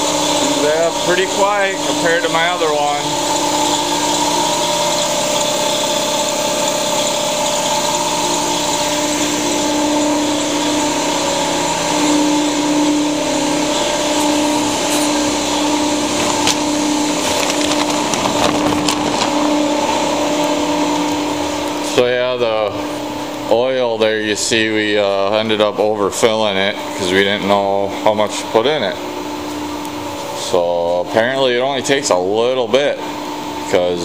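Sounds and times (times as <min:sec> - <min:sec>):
electric air compressor running: 0:00.0 - 0:34.0.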